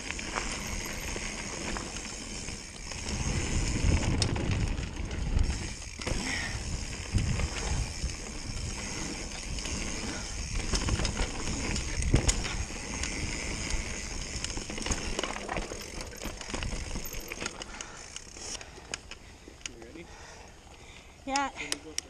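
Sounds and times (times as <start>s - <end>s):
bike clicks and rattles: 0.0s - 22.0s.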